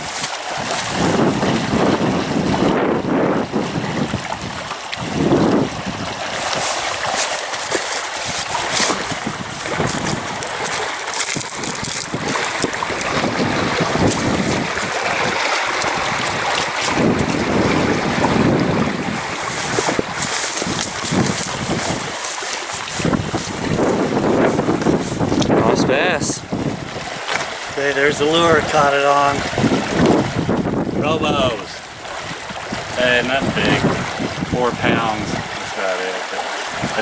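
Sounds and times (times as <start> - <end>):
wind buffeting microphone: 0.0 - 35.8, 36.6 - 37.0
river water lapping on rocks: 0.0 - 37.0.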